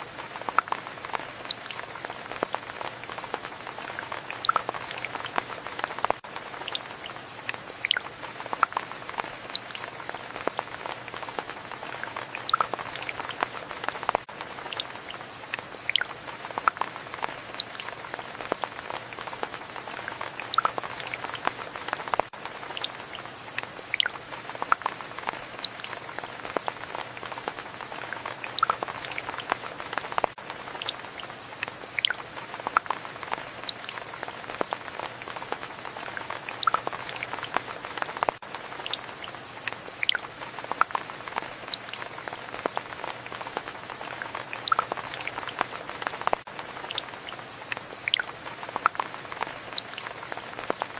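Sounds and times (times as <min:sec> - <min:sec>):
raindrops ticking on a surface: 0:00.0 - 0:50.9
steady rainfall: 0:00.0 - 0:50.9.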